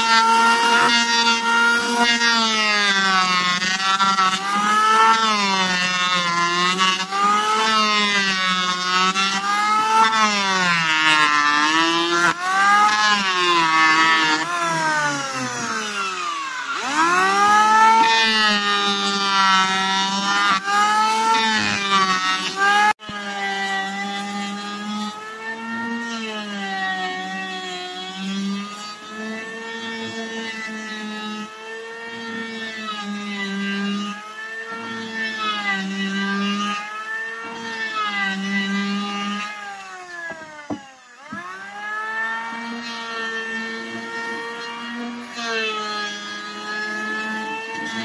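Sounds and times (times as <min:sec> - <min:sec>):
electric planer whining: 0:00.0 - 0:48.0.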